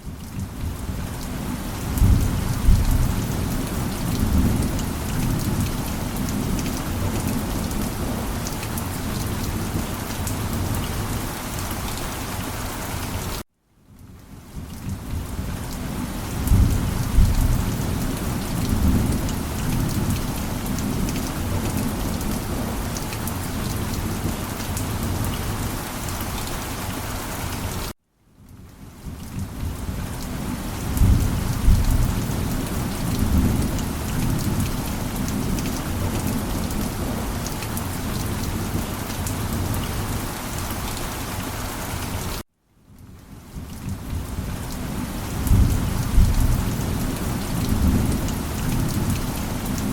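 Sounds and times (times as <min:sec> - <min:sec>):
steady rain: 0:00.0 - 0:49.9
low rumble of thunder: 0:00.2 - 0:11.2, 0:14.3 - 0:25.7, 0:28.6 - 0:40.2, 0:43.5 - 0:49.9.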